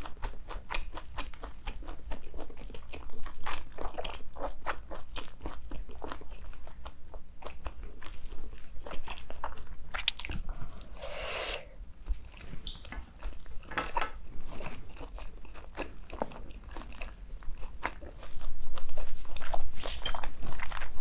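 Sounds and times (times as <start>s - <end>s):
wet chewing and biting: 0.0s - 11.2s, 12.2s - 21.0s.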